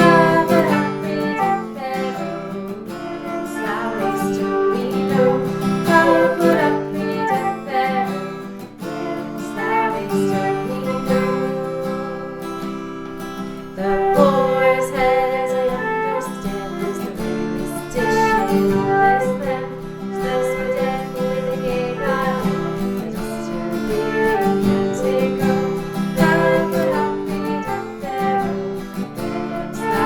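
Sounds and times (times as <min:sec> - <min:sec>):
acoustic guitar music: 0:00.0 - 0:30.0.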